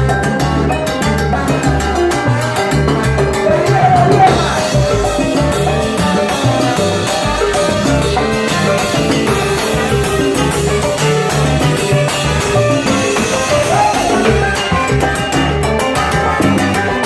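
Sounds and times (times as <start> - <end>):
salsa band playing: 0.0 - 17.0.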